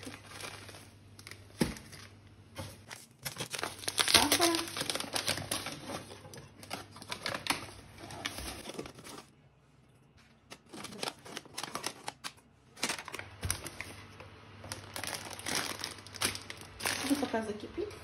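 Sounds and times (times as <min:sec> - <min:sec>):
paper bag crinkling: 0:00.0 - 0:09.4, 0:10.3 - 0:17.4.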